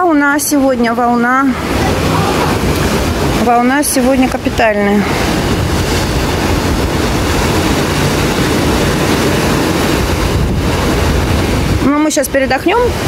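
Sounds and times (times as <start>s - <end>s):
wind rumbling on microphone: 0.0s - 13.0s
surf breaking against rocks: 0.9s - 13.0s.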